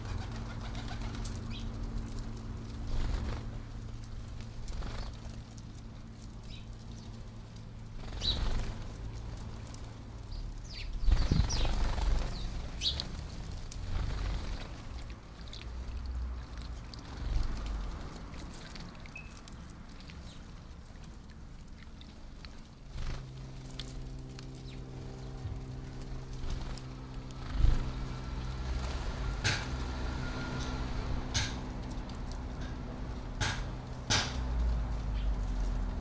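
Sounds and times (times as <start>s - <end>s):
sparrows chirping: 0.0s - 2.0s, 2.8s - 17.8s, 18.7s - 33.8s, 35.1s - 35.7s.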